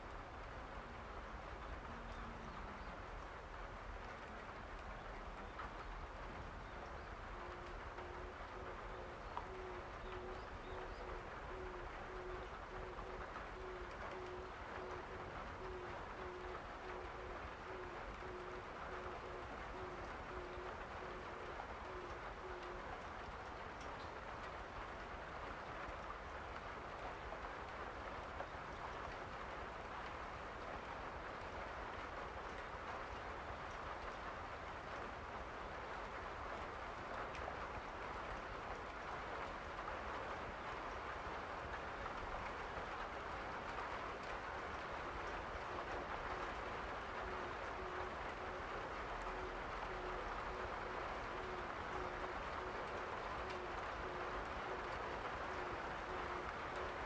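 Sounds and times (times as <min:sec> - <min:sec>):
steady rain hiss: 0:00.0 - 0:57.0
light drip ticks: 0:01.5 - 0:57.0.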